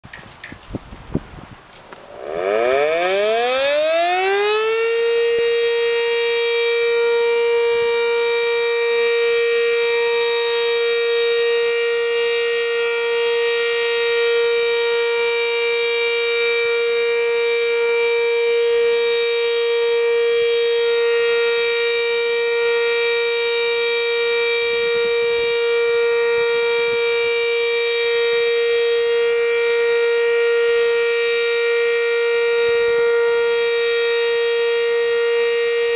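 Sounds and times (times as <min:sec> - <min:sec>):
warning siren rising: 0:01.9 - 0:35.9.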